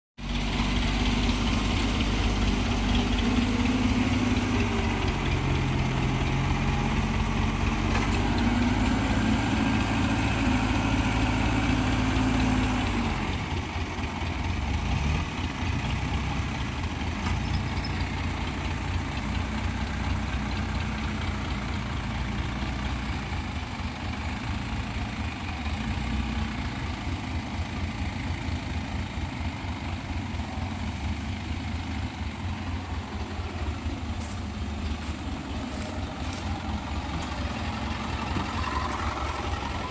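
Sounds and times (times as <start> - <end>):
heavy vehicle engine running: 0.2 - 39.9.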